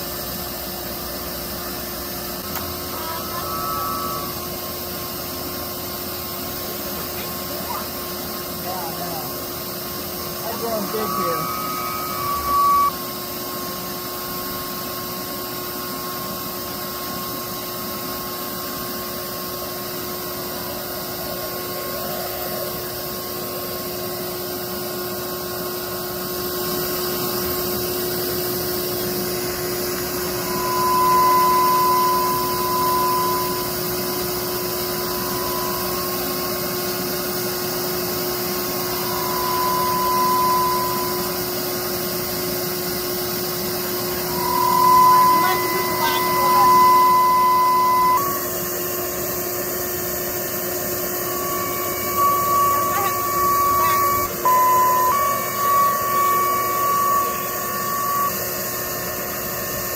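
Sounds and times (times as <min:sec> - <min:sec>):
vacuum motor whining: 0:00.8 - 0:59.9.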